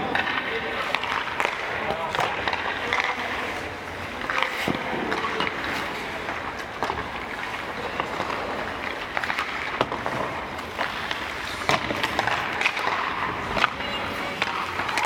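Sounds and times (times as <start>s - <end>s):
skate blades scraping ice: 0.0s - 15.0s
sticks striking pucks: 0.0s - 15.0s.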